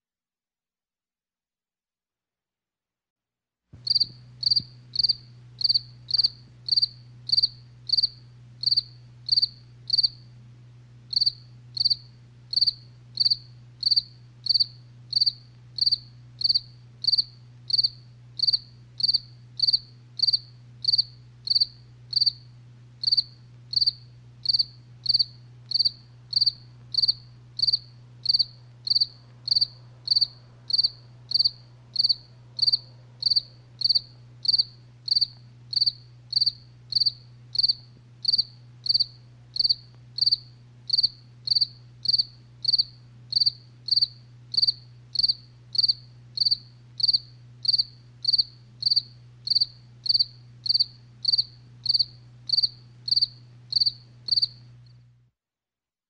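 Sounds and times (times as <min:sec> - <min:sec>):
cricket chirping: 0:03.8 - 0:10.3, 0:11.1 - 0:54.7
faint low hum: 0:03.8 - 0:55.3.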